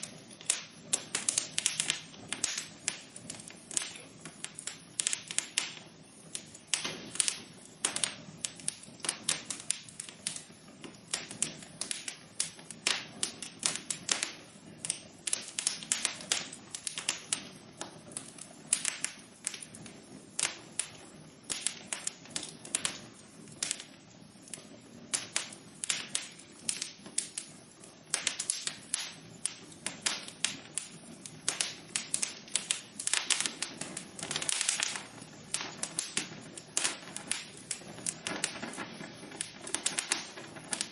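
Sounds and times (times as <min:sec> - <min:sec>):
soft hiss of burning: 0:00.0 - 0:40.9
wood fire crackling: 0:00.0 - 0:40.9.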